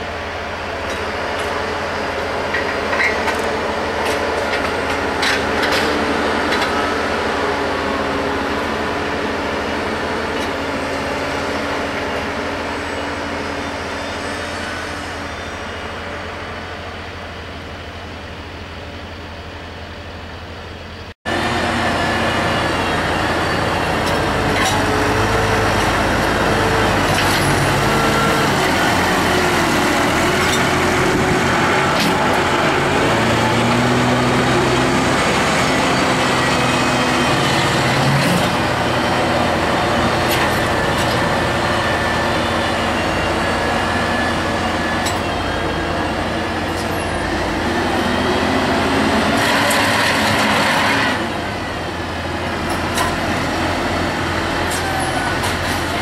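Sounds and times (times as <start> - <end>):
tractor diesel engine working: 0.0 - 56.0.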